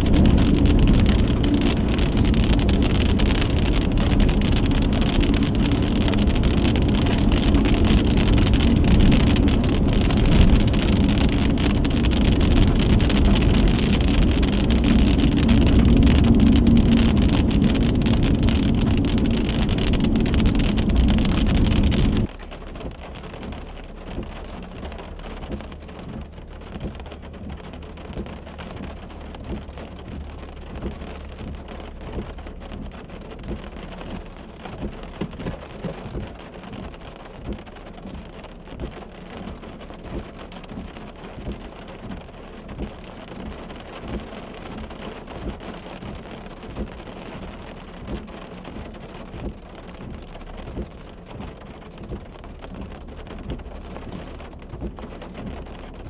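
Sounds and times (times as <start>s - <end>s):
low wind rumble: 0.0s - 56.0s
rain hissing on a vehicle: 0.0s - 56.0s
raindrop hits: 0.0s - 56.0s.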